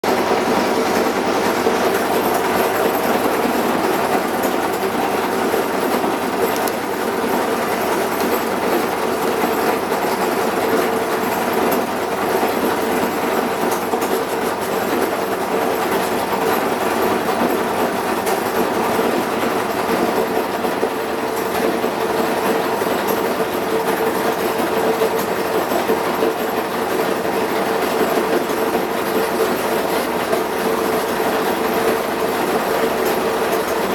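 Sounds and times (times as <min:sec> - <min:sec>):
washing machine running: 0:00.0 - 0:33.9.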